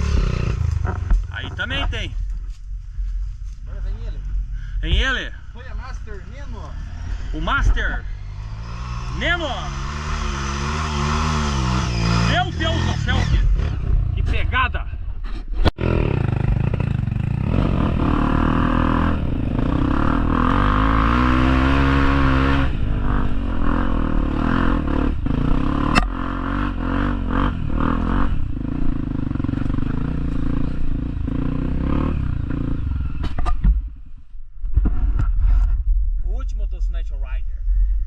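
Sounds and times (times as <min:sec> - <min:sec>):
motorcycle engine revving: 0:00.0 - 0:34.1.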